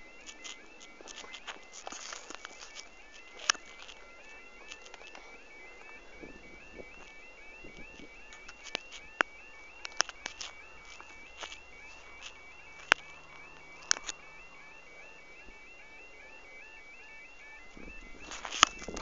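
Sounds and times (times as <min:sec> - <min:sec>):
footsteps: 0:00.0 - 0:19.0
level crossing alarm warbling: 0:00.0 - 0:19.0
sharp clicks: 0:00.0 - 0:19.0.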